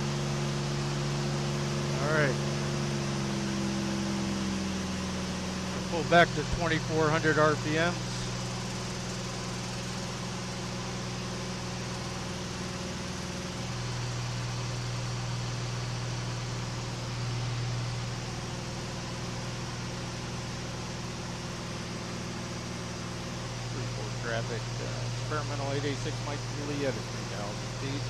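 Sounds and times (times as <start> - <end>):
aircraft engine and propeller droning: 0.0 - 28.0.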